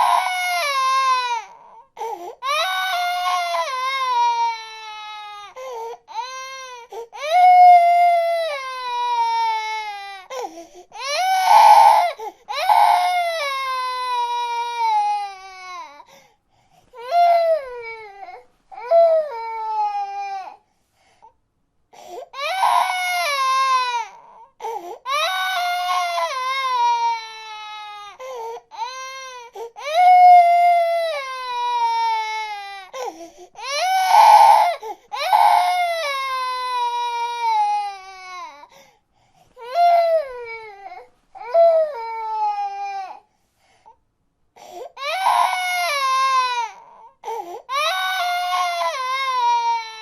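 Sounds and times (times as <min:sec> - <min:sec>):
infant crying: 0:00.0 - 0:16.2, 0:17.0 - 0:20.6, 0:22.0 - 0:38.8, 0:39.6 - 0:43.3, 0:44.6 - 0:50.0.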